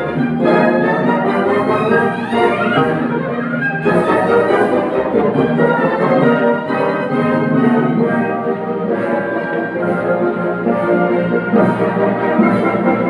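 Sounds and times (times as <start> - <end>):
orchestra playing ballet music: 0.0 - 13.0.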